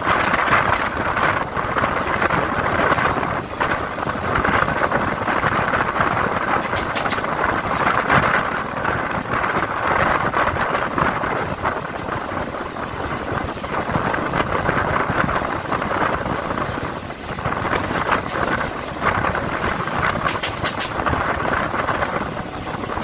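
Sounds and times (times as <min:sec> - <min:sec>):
train wheels rumbling on rails: 0:00.0 - 0:23.0
wheels clicking over rail joints: 0:00.0 - 0:23.0.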